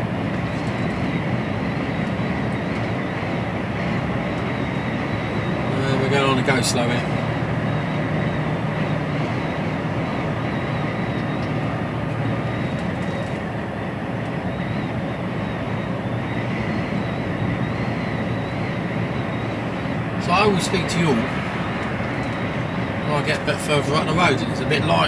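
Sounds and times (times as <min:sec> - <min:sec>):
road noise: 0:00.0 - 0:25.0
truck engine drone: 0:00.0 - 0:25.0.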